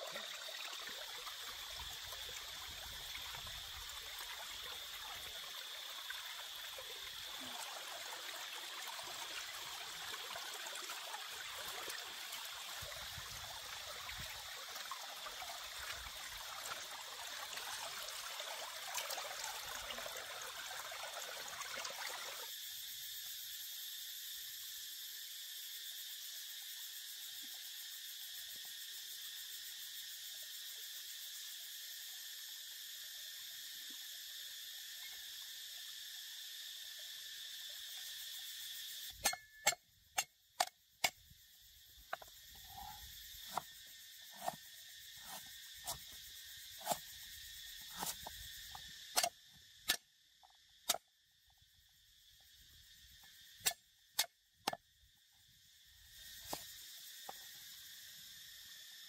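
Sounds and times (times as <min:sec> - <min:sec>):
insects humming: 0:00.0 - 0:59.0.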